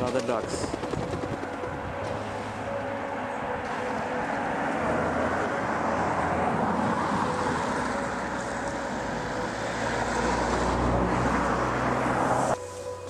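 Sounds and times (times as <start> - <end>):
road traffic noise: 0.0 - 13.0
vehicle engine hum approaching: 1.0 - 13.0.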